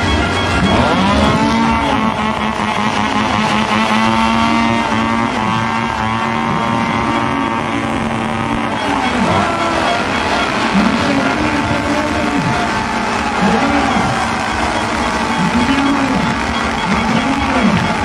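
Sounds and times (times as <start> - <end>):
crowd celebrating: 0.0 - 18.0.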